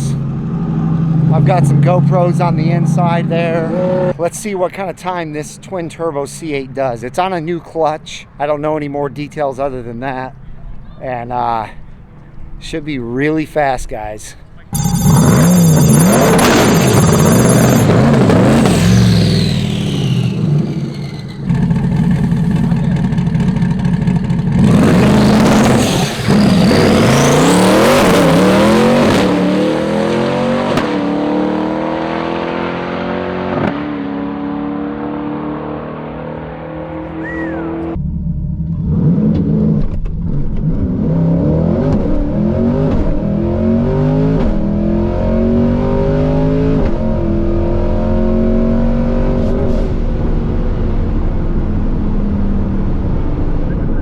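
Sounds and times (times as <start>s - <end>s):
drag cars accelerating: 0.0s - 5.5s, 14.7s - 54.0s.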